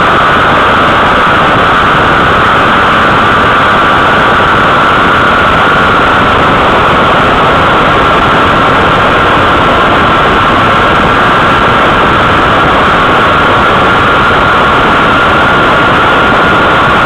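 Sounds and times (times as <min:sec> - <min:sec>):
motorcycle engine high-pitched whine: 0:00.0 - 0:17.0
wind and road noise: 0:00.0 - 0:17.0.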